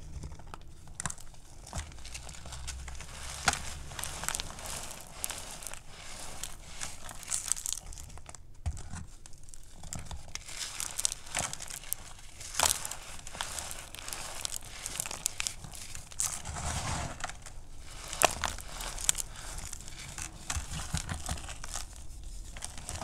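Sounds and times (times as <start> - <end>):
fingers crumbling chalk powder: 0.0 - 23.0.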